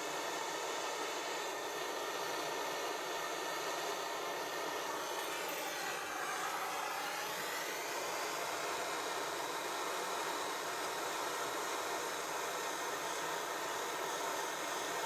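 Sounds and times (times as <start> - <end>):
blow lamp flame hissing: 0.0 - 15.0.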